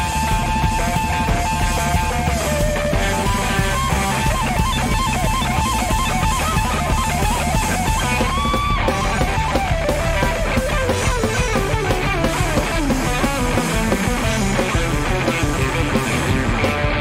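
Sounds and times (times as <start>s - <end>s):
bass guitar: 0.0s - 17.0s
drum kit: 0.0s - 17.0s
lead electric guitar: 0.0s - 17.0s.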